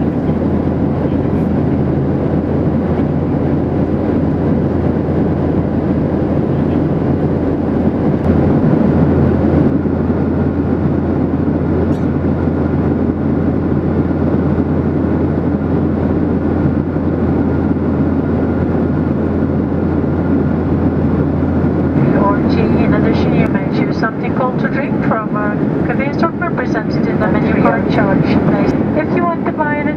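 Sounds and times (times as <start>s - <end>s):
constant low hum: 0.0s - 29.9s
jet engines droning: 0.0s - 29.9s
rush of air over fuselage: 0.0s - 29.9s.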